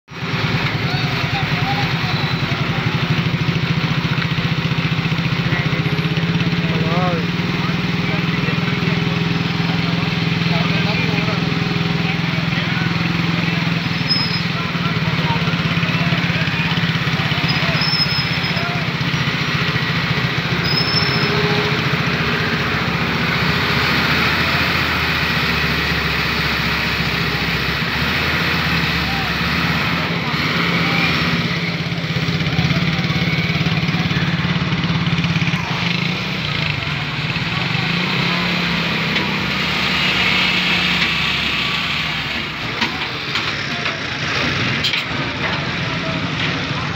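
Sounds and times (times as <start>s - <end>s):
heavy diesel engine under load: 0.1s - 46.9s.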